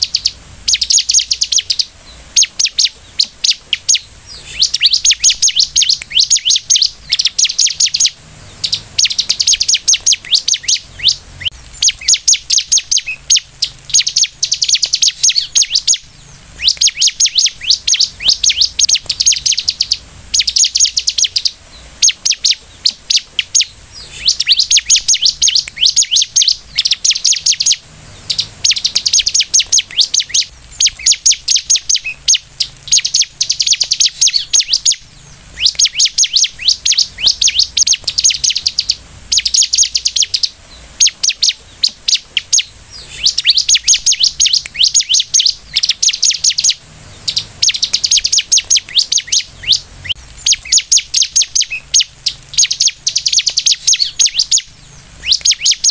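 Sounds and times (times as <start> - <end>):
bird chirping song: 0.0 - 55.9.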